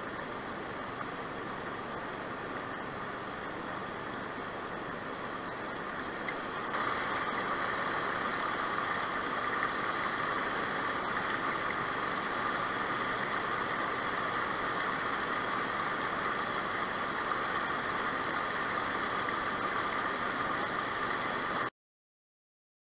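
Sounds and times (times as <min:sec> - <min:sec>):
river water over stones: 0:00.0 - 0:21.7.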